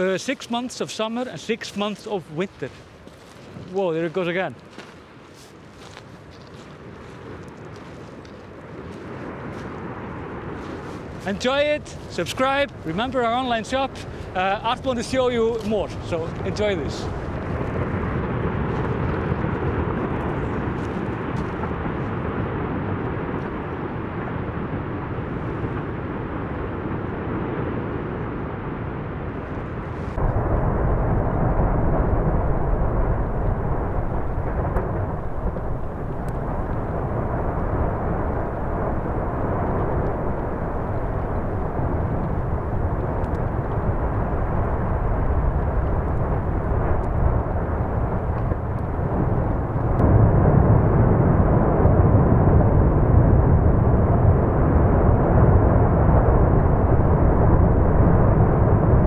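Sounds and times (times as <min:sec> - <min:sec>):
lava fountain rushing rumble: 0:00.0 - 0:04.7, 0:05.8 - 0:59.0.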